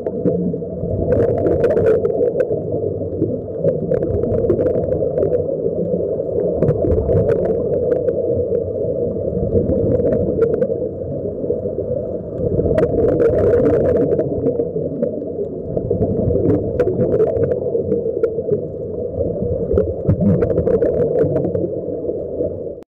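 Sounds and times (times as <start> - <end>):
air bubbling underwater: 0.0 - 11.8, 12.4 - 22.8
muffled underwater rumble: 0.0 - 22.8.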